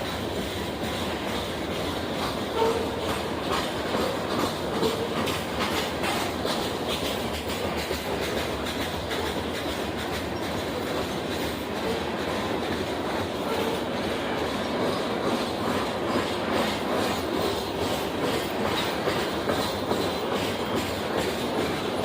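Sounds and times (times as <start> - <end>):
train rolling past: 0.0 - 22.0
wheels clicking over rail joints: 0.0 - 22.0.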